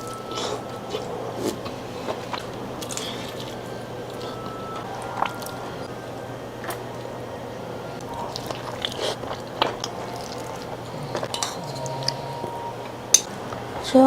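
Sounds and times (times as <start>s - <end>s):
person chewing food: 0.0s - 7.3s, 7.9s - 13.3s
steady low hum: 0.0s - 14.0s.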